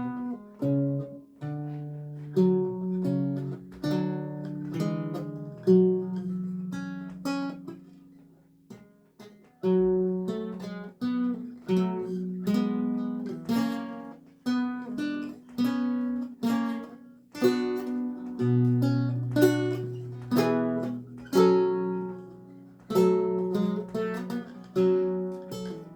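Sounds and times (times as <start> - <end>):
solo lute music: 0.0 - 25.9.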